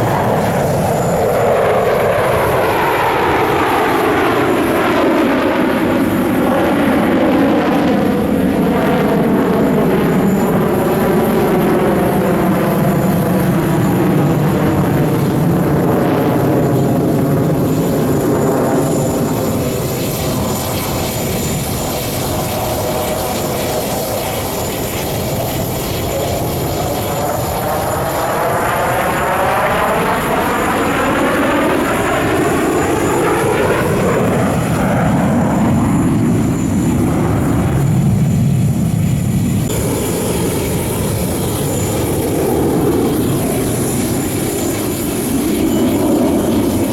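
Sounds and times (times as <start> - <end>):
jet engines roaring: 0.0 - 46.9.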